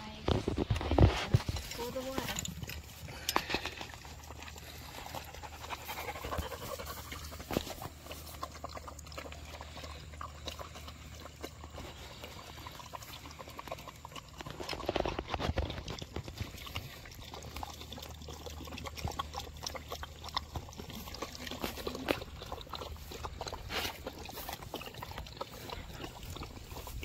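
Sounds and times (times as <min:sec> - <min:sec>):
puppies lapping water: 0:00.0 - 0:27.0.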